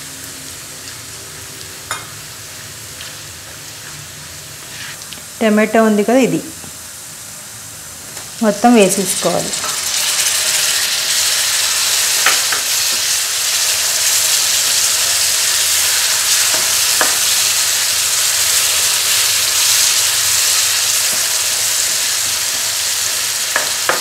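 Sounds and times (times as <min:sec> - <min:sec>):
food sizzling in pan: 0:00.0 - 0:24.0.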